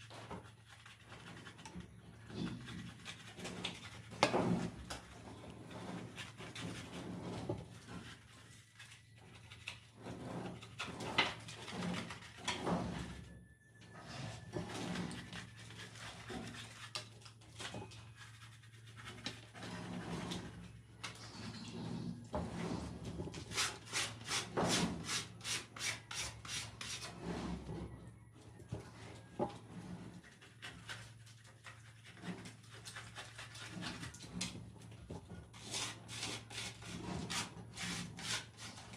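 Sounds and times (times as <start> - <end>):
hand scraping on plaster: 0.0 - 13.3, 13.9 - 38.9.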